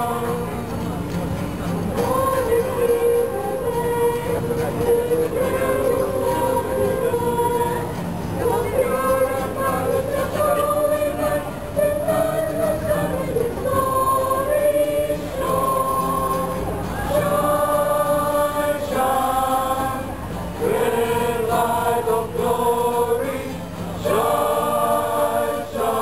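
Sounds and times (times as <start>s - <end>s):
mixed choir singing a carol: 0.0s - 26.0s.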